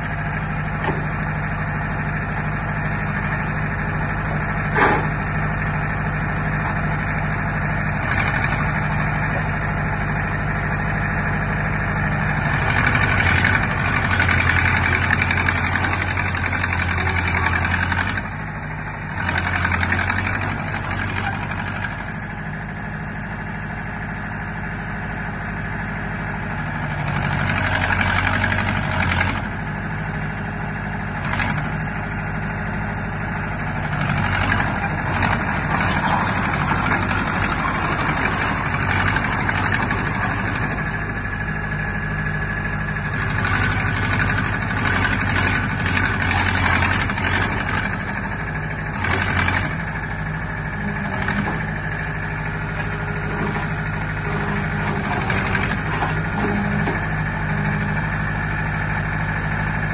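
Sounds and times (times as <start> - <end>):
crawler loader engine running: 0.0 - 59.9.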